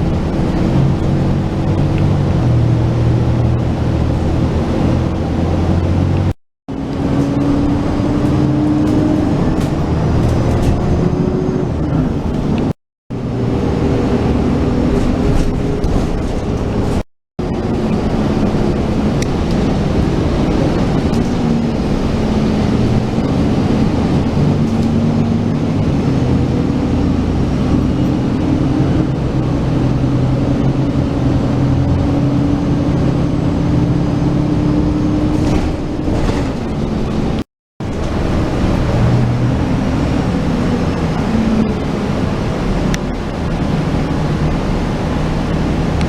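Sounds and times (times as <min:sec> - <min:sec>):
vehicle engine and road noise: 0:00.0 - 0:46.0.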